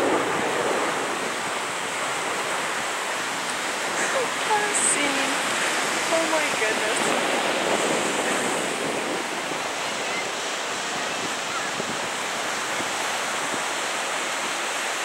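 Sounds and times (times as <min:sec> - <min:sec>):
ocean surf breaking on beach: 0:00.0 - 0:15.0
wind: 0:00.0 - 0:15.0.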